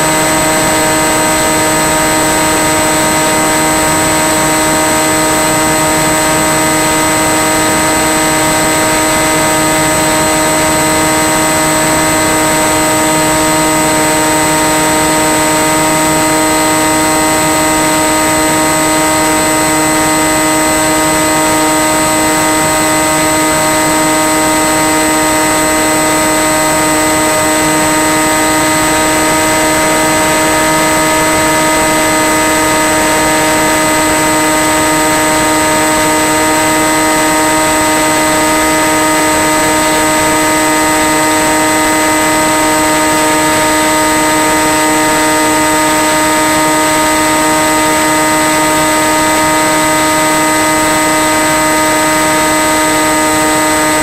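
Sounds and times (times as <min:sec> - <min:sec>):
model plane motor hum: 0:00.0 - 0:54.0.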